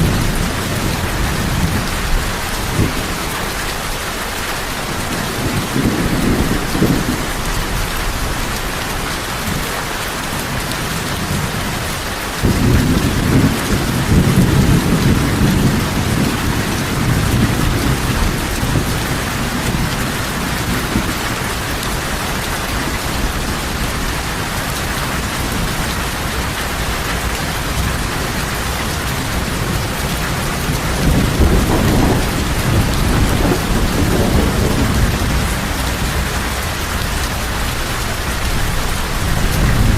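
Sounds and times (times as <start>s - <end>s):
thunder rumbling: 0.0s - 3.8s, 4.7s - 9.8s, 10.4s - 39.9s
heavy rain falling: 0.0s - 39.9s.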